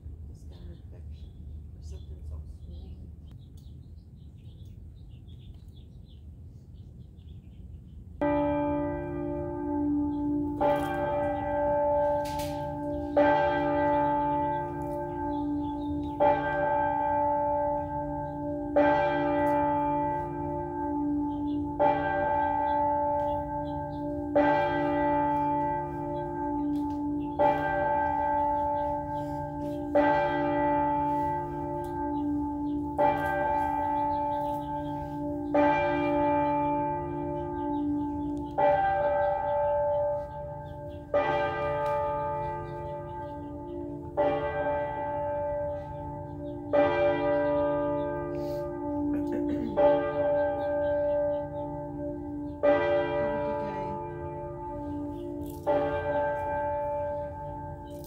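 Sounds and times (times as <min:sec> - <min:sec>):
large bell ringing: 0:08.2 - 0:58.0.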